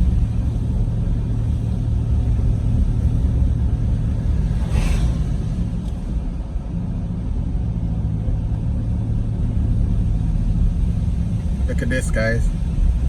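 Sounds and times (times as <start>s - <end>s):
road rumble: 0.0s - 13.0s
vehicle engine hum: 0.0s - 13.0s.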